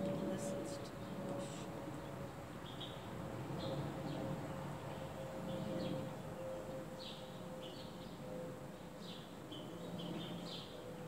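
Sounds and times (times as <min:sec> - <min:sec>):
small songbirds chirping: 0:00.1 - 0:11.0.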